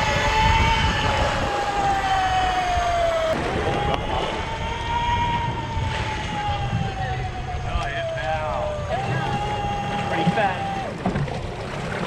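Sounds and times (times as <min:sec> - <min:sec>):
boat noise: 0:00.0 - 0:12.0
low rumble of wind: 0:00.0 - 0:12.0.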